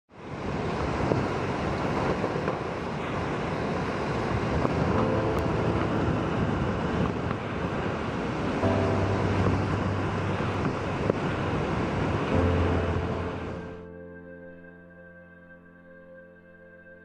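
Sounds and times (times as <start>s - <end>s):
howling wind: 0.1s - 16.4s
driving rain: 0.2s - 13.8s
wind buffeting microphone: 0.2s - 13.8s.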